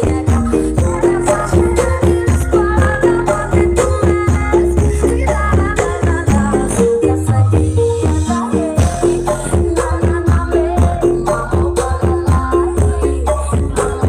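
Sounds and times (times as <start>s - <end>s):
loud music over sound system: 0.0s - 14.0s.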